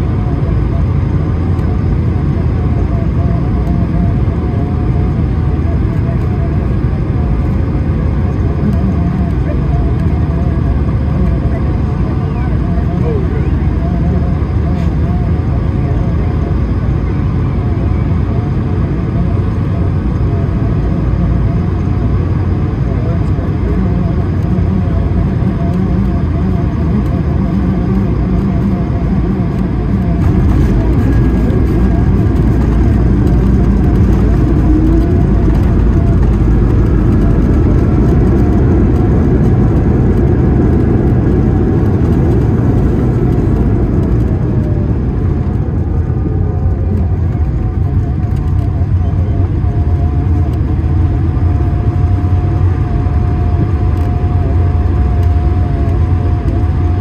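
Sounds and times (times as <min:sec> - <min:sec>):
aircraft rolling rumble: 0:00.0 - 0:57.0.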